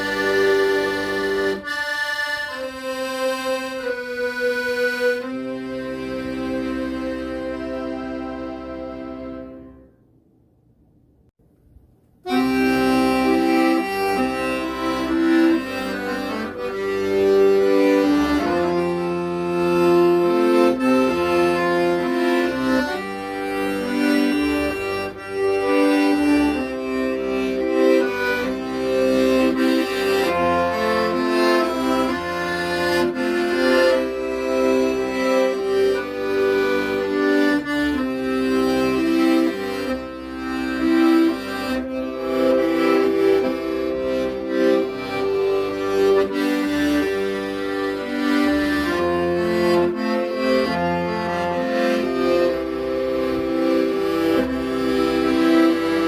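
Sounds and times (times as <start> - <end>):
accordion playing a melody: 0.0 - 10.1, 12.2 - 56.0.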